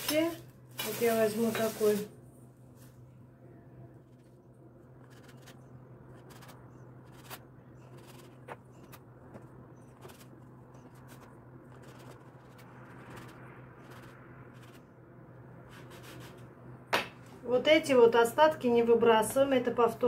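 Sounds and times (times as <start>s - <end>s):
steady low hum: 2.1s - 20.0s.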